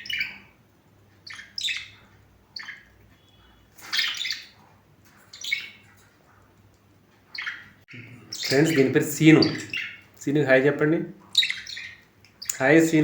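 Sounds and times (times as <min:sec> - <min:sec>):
lovebirds chirping and squawking: 0:00.0 - 0:13.0.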